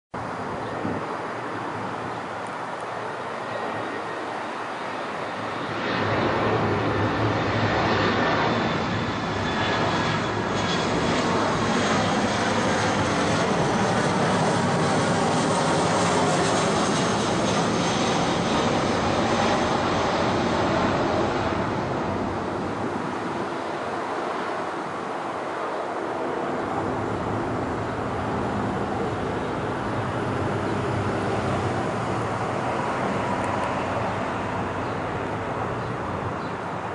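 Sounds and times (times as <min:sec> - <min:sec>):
jet airliner passing overhead: 0:00.2 - 0:36.9.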